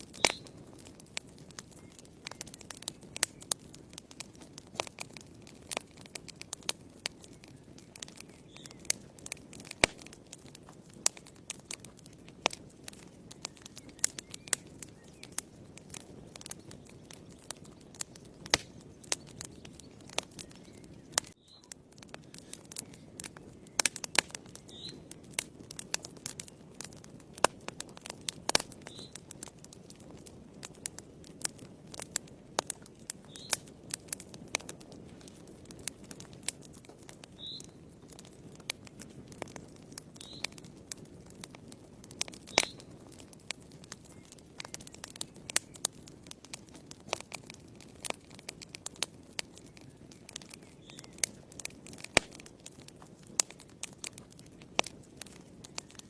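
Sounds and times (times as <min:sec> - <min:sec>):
fire crackling: 0:00.0 - 0:56.0
soft rustle of flames: 0:00.0 - 0:56.0.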